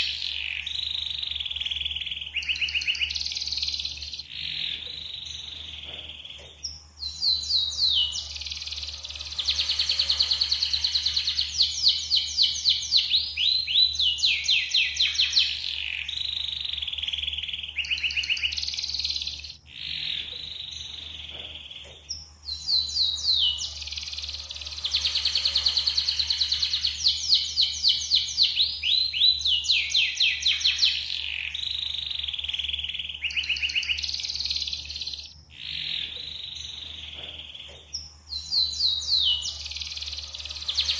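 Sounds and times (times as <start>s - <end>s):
steady low hum: 0.0s - 33.3s, 33.9s - 40.9s
canary singing trills: 0.0s - 40.9s.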